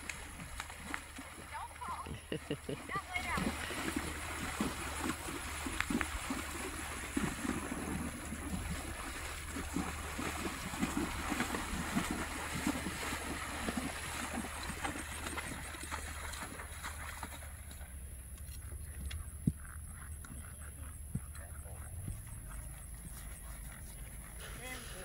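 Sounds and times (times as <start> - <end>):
hooves splashing through water: 0.0 - 25.0.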